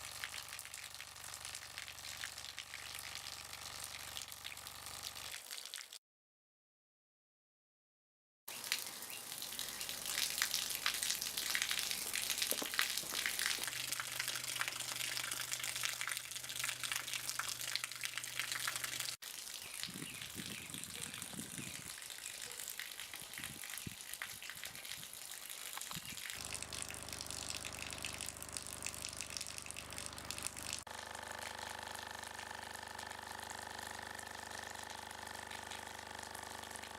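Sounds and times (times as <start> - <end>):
water gushing from a hose: 0.0 - 6.0, 8.5 - 36.9.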